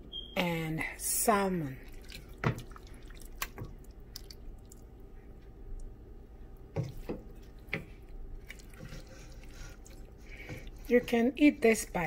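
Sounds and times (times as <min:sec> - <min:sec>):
soft wet squishing: 0:01.4 - 0:12.0.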